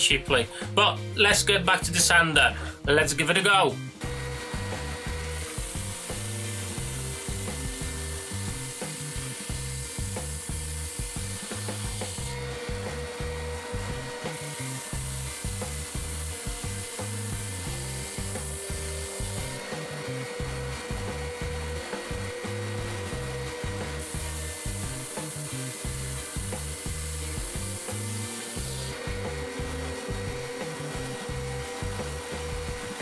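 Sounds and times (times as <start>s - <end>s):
motor humming: 3.9s - 33.0s
belt sander grinding wood: 4.0s - 33.0s.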